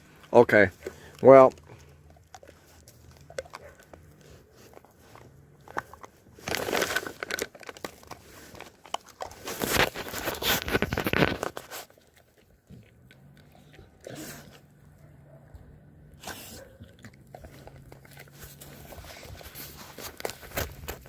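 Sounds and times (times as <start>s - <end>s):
dogs crunching chew sticks: 0.0s - 21.0s.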